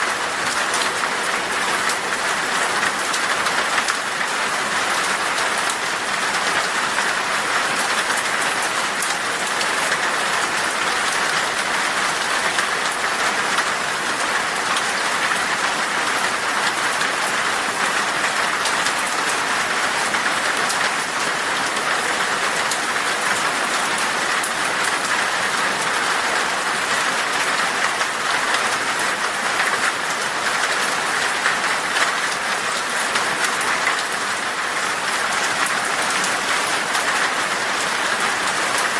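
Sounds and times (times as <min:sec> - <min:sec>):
heavy rain on glass: 0:00.0 - 0:38.9.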